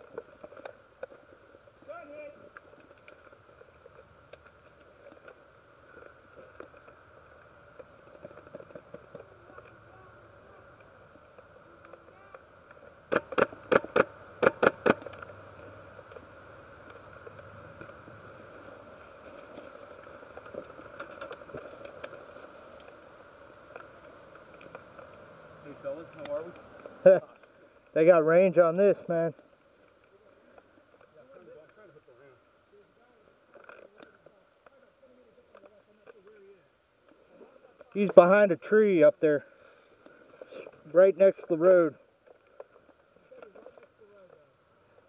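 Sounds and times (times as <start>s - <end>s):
faint steady drone: 0.0s - 45.0s.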